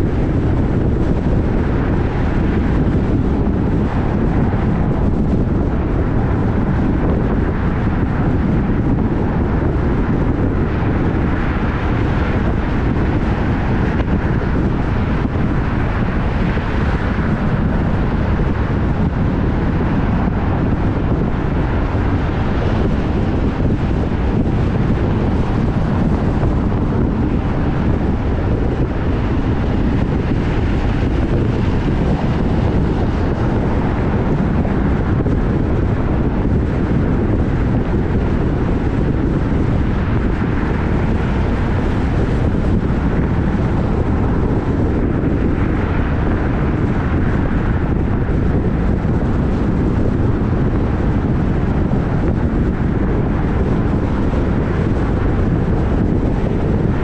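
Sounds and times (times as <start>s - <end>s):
moving vehicle rumble: 0.0s - 57.0s
wind noise on microphone: 0.0s - 57.0s.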